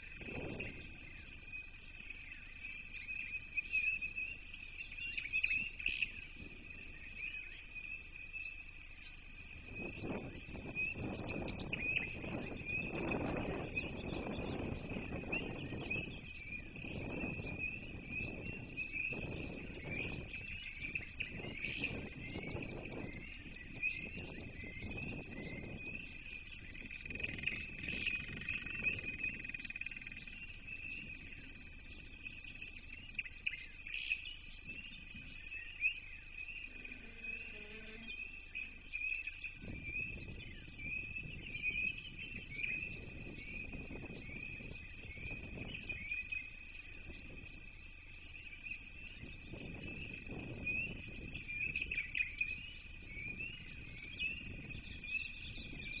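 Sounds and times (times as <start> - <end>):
insects trilling: 0.0 - 56.0
short insect chirps: 0.0 - 56.0.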